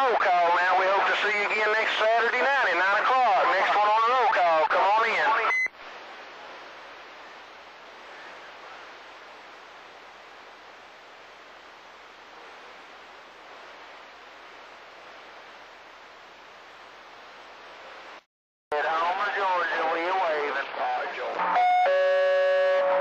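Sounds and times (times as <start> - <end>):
radio static hiss: 0.0 - 23.0.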